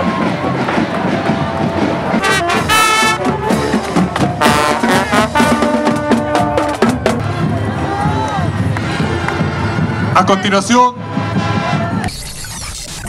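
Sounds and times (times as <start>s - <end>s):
brass band playing with drums: 0.0s - 12.2s.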